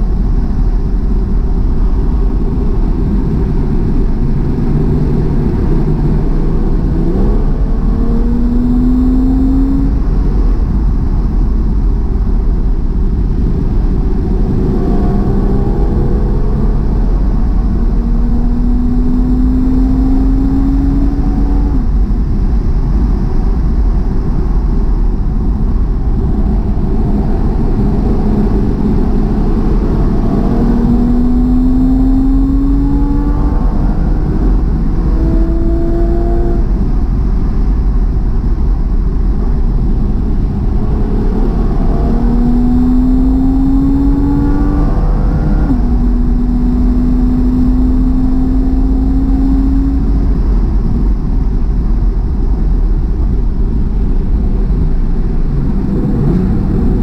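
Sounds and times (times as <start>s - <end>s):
car engine revving: 0.0s - 57.0s
road and wind rumble: 0.0s - 57.0s.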